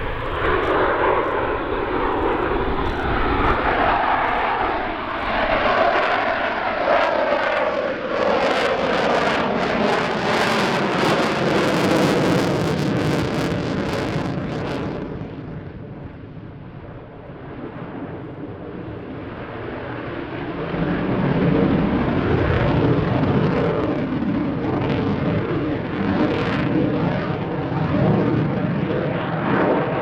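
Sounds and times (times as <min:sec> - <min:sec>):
fighter jet engines roaring: 0:00.0 - 0:30.0.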